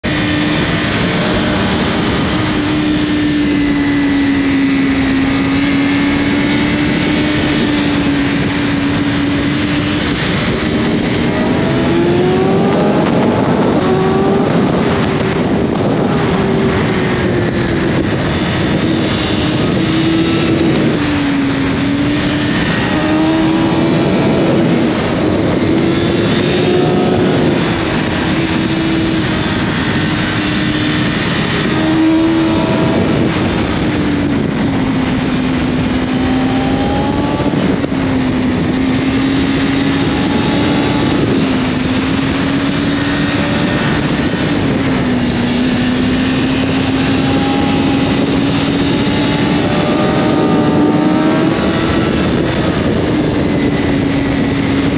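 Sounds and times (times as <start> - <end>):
motorcycle engine at high revs: 0.0 - 54.9
wind noise: 0.0 - 54.9.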